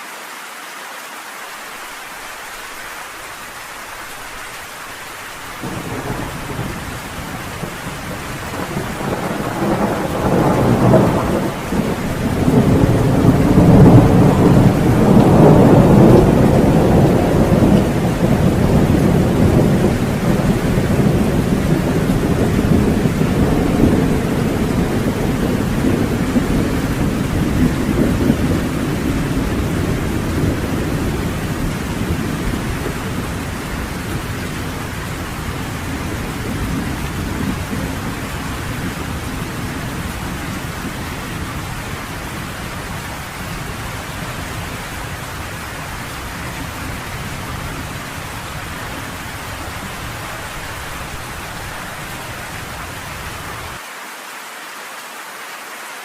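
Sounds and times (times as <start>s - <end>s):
rain pattering on a porch: 0.0s - 56.0s
rolling thunder: 5.6s - 53.8s.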